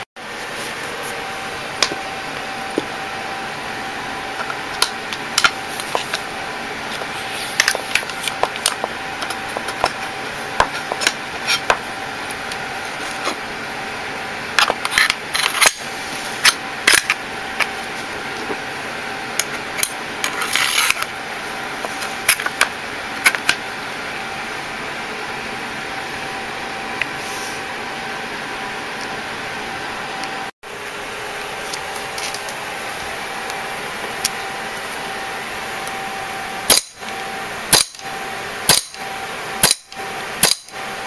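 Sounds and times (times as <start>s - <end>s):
fan-like hum: 0.0s - 41.0s.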